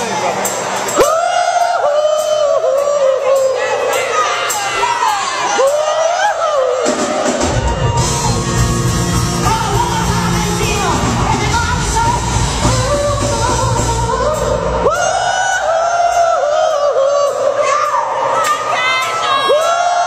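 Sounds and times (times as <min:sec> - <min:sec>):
woman singing with live band: 0:00.9 - 0:20.0.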